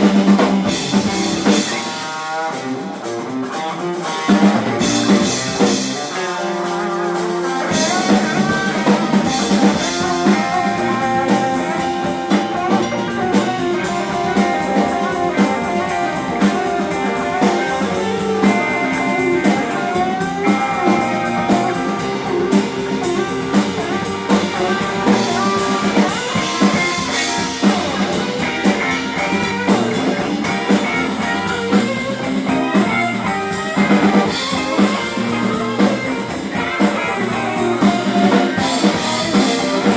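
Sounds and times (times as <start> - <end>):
bass guitar: 0.0 - 39.9
drum kit: 0.0 - 39.9
electric guitar lines: 0.0 - 39.9.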